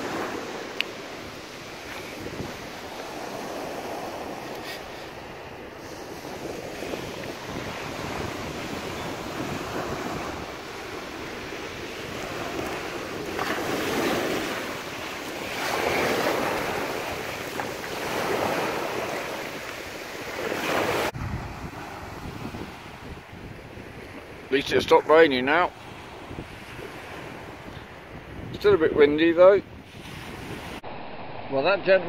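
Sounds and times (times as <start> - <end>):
waves washing over shingle: 0.0 - 27.7
wind buffeting microphone: 0.0 - 32.0.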